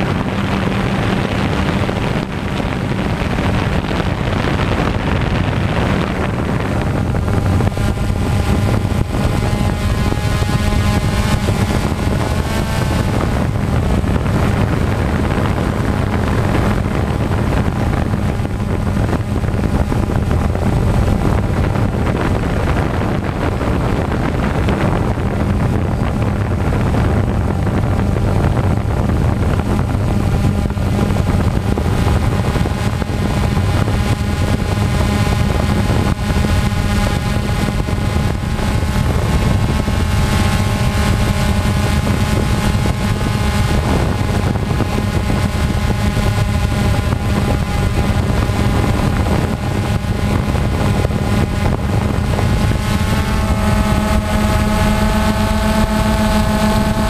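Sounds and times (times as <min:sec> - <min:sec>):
drone propellers buzzing: 0:00.0 - 0:57.0
wind rumbling on microphone: 0:00.0 - 0:57.0.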